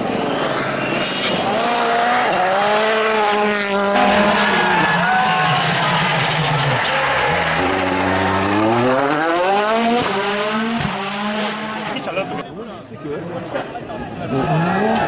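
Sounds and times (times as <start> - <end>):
rally car engine revving: 0.0 - 12.4, 13.6 - 15.0.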